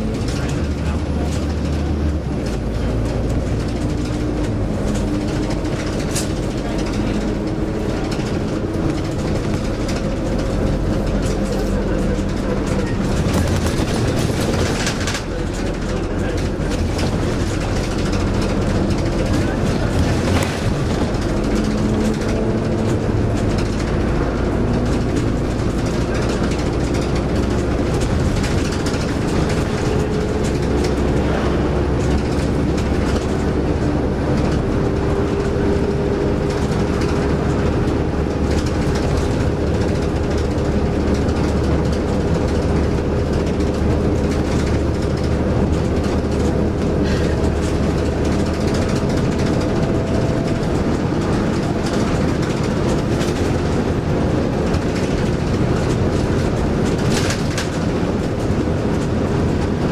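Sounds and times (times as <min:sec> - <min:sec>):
bodywork rattling: 0:00.0 - 0:59.9
bus engine and road drone: 0:00.0 - 0:59.9.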